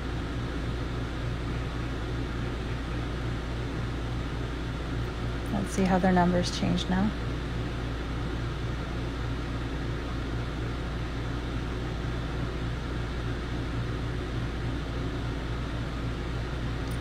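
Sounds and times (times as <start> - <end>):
air conditioner low hum: 0.0 - 17.0.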